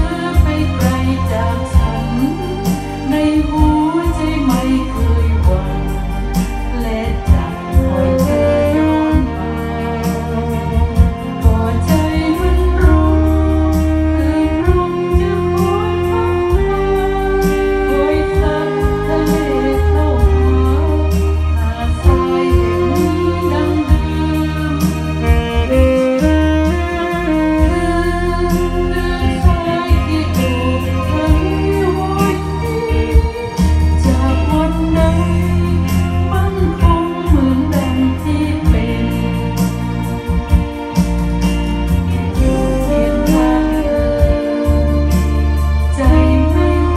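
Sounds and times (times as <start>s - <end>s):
bass notes: 0.0s - 46.9s
slow jazz band playing: 0.0s - 46.9s.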